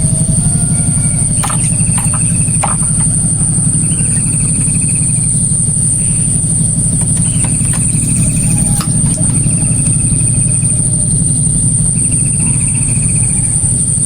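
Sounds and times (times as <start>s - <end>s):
high-pitched insect whine: 0.0s - 14.0s
insect trill: 0.0s - 14.0s
small engine running: 0.0s - 14.0s.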